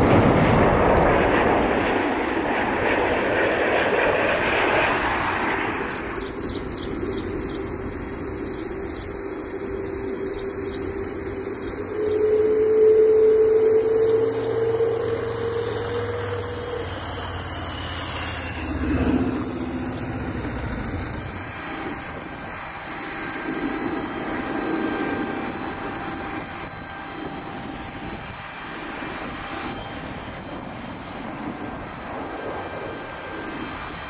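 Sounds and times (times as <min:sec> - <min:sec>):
jet airliner engines running: 0:00.0 - 0:34.0.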